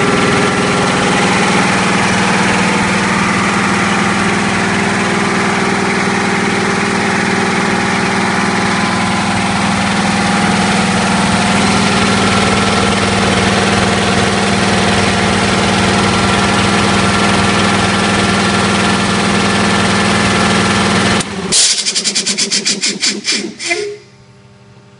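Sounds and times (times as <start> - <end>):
air compressor running: 0.0 - 24.9.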